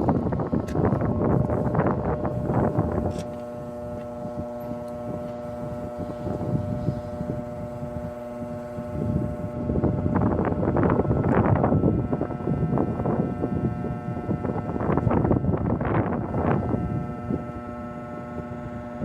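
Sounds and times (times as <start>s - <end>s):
machine hum: 0.0s - 19.0s
wind on microphone: 0.0s - 19.0s.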